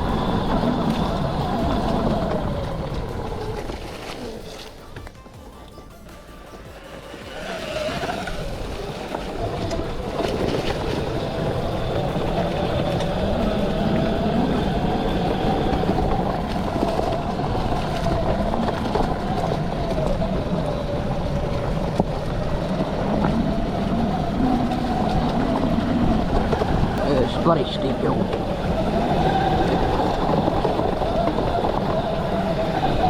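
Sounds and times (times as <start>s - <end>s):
electric motor whining: 0.0s - 5.1s, 6.5s - 33.0s
wind and tyre rumble: 0.0s - 33.0s.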